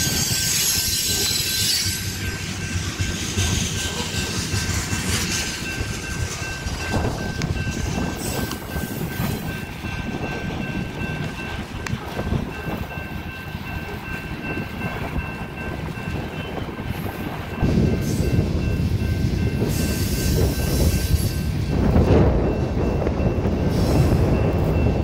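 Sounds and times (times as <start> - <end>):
crossing bell ringing: 0.0 - 25.0
train wheels rumbling and clacking: 0.0 - 25.0.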